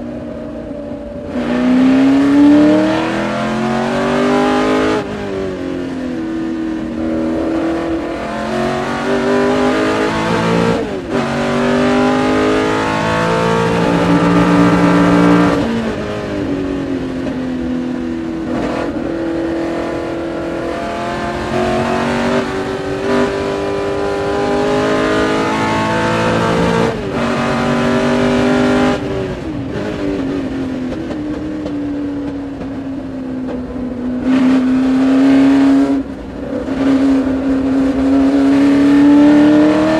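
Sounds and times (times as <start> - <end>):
racing engine revving through gears: 1.2 - 16.1, 18.3 - 32.0, 34.2 - 39.9.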